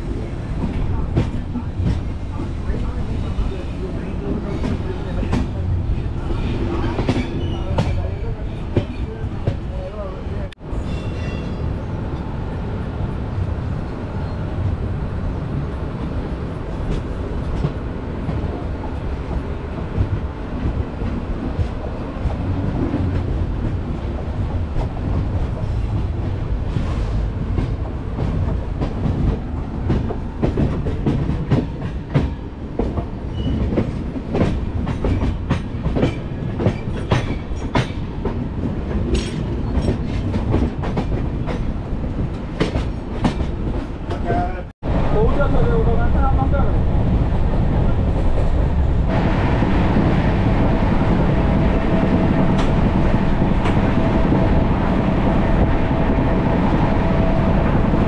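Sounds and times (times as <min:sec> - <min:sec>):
train coach rumbling on track: 0:00.0 - 0:58.0.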